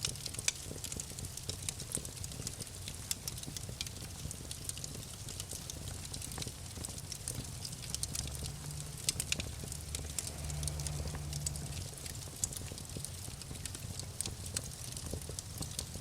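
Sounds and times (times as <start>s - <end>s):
wood fire crackling and snapping: 0.0s - 16.0s.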